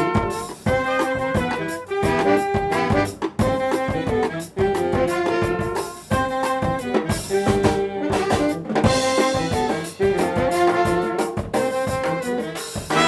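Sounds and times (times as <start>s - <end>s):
brass horn phrases: 0.0s - 13.0s
drum kit beat: 0.0s - 13.0s.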